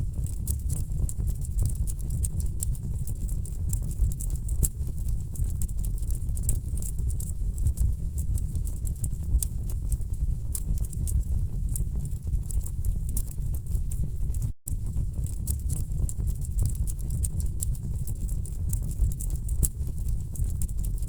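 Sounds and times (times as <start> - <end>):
low rumble of flames: 0.0 - 21.0
fire crackling and popping: 0.1 - 21.0.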